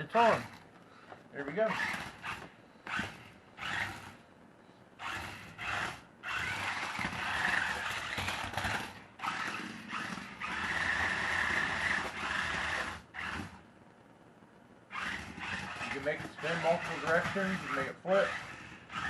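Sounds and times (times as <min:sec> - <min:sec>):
toy car electric motors whirring: 0:01.6 - 0:04.2, 0:05.0 - 0:13.6, 0:14.9 - 0:19.0.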